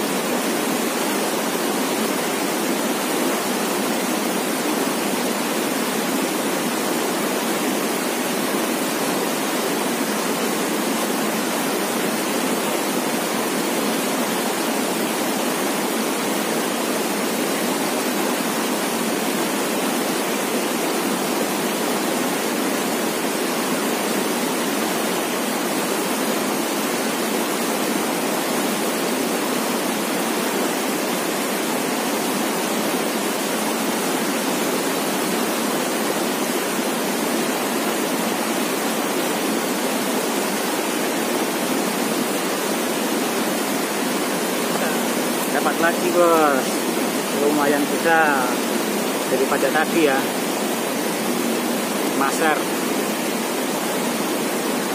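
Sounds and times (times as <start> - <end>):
river rushing over rapids: 0.0 - 54.9.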